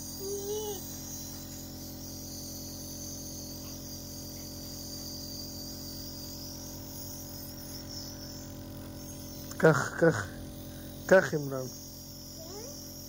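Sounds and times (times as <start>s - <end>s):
compressor motor hum: 0.0s - 13.0s
high-pitched hiss: 0.0s - 13.0s.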